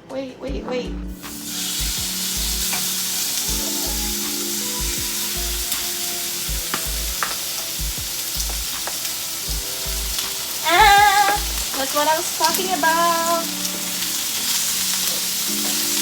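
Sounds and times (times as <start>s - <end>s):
food sizzling in oil: 1.2s - 16.0s.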